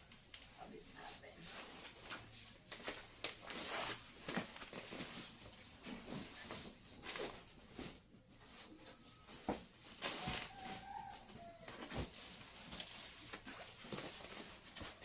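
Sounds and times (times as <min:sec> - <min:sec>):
rustling with light clicks: 0:00.0 - 0:15.0.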